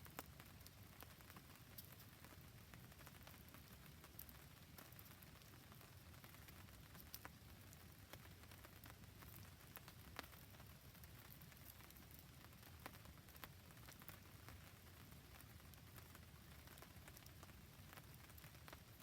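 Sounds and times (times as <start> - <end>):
faint rain hiss: 0.0 - 19.0
campfire crackling and popping: 0.1 - 19.0.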